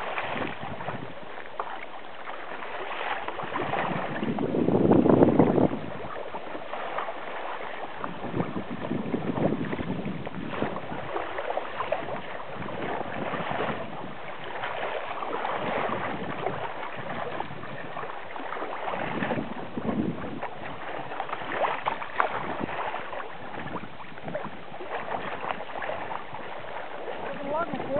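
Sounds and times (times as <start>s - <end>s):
wind on microphone: 0.0s - 1.6s, 2.2s - 27.9s
water splashing around kayak: 0.0s - 27.9s.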